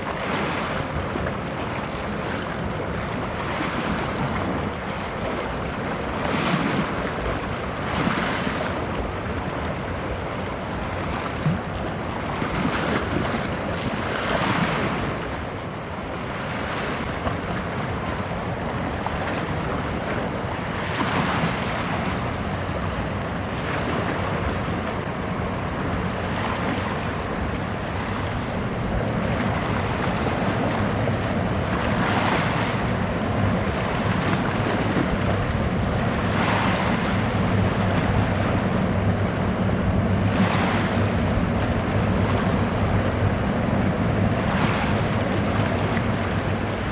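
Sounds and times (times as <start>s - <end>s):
low ship engine drone: 0.0s - 46.9s
water: 0.0s - 46.9s
wind buffeting microphone: 0.0s - 46.9s.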